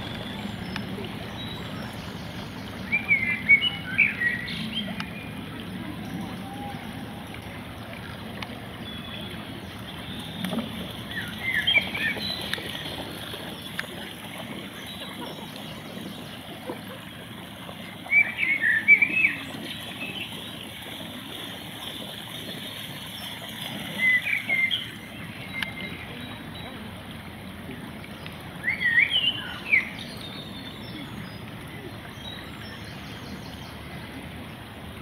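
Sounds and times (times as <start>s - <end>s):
shallow stream running: 0.0s - 35.0s.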